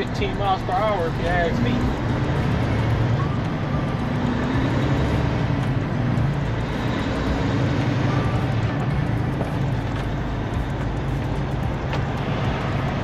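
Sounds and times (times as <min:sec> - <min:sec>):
diesel truck engine rumbling: 0:00.0 - 0:13.0
road noise: 0:00.0 - 0:13.0.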